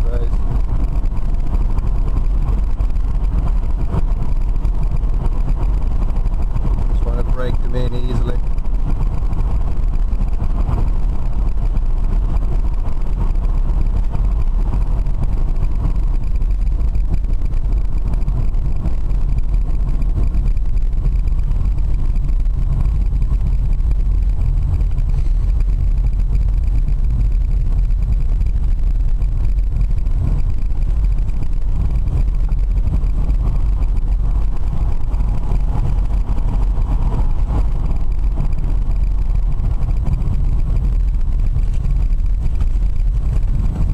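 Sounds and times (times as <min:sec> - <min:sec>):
road and wind noise in car: 0:00.0 - 0:43.9.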